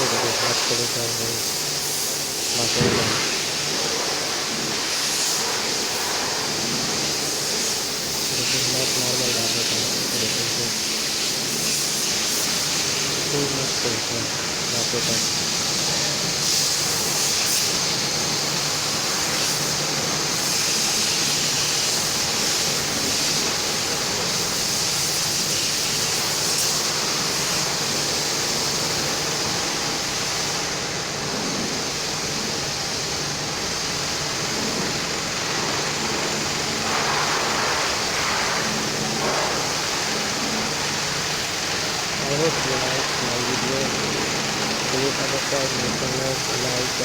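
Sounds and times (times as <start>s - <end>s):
pressure washer spraying water: 0.0s - 47.0s.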